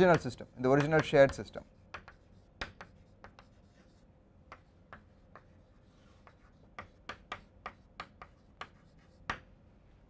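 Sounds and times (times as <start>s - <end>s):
chalk tapping and scratching on board: 0.0s - 9.5s.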